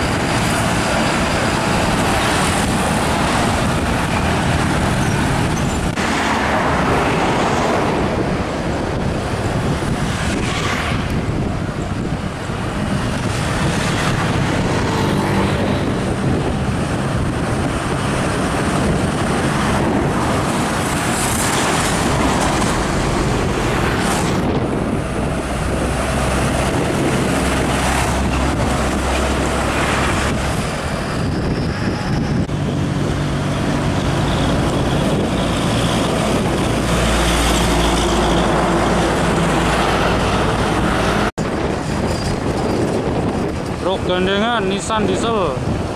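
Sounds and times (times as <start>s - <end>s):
trucks driving by: 0.0s - 45.9s
tyre and traffic noise: 0.0s - 45.9s.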